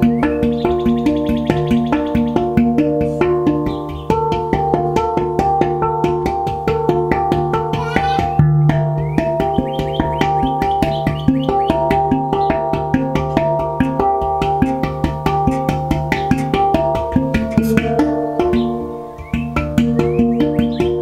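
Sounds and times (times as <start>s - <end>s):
handpan notes: 0.0s - 21.0s.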